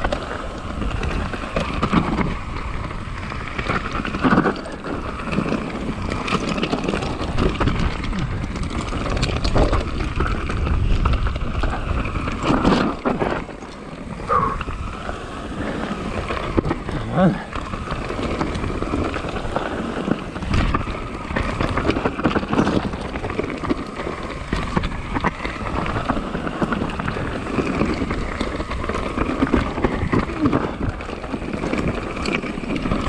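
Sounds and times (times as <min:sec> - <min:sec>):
bike knocking and rattling: 0:00.0 - 0:33.0
bike tyres on loose dirt: 0:00.0 - 0:33.0
wind rumble on microphone: 0:00.0 - 0:33.0.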